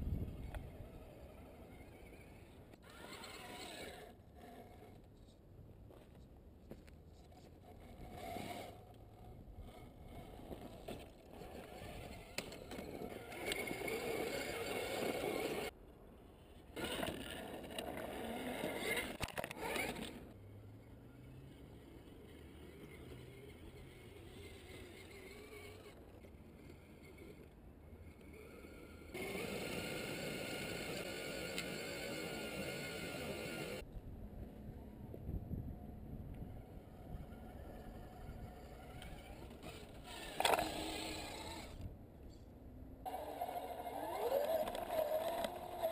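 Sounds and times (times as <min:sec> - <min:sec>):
rc car electric motor whine: 0:00.0 - 0:05.3, 0:07.4 - 0:15.8, 0:16.7 - 0:33.9, 0:34.6 - 0:42.4, 0:43.0 - 0:45.9.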